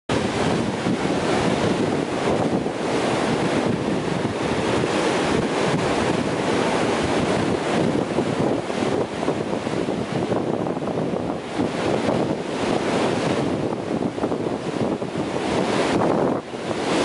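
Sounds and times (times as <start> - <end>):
surf breaking on beach: 0.1 - 17.0
wind buffeting microphone: 0.1 - 17.0.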